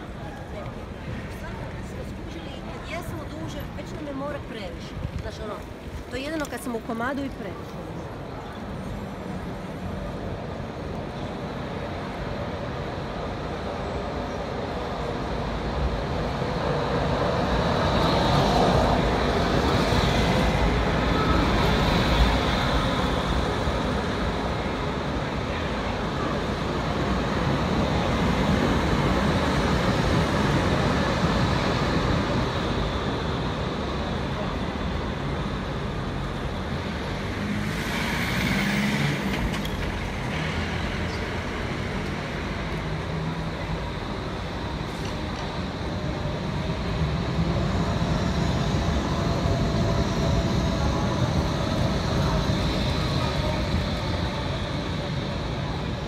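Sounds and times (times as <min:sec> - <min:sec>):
tram passing on street track: 0:00.0 - 0:56.0.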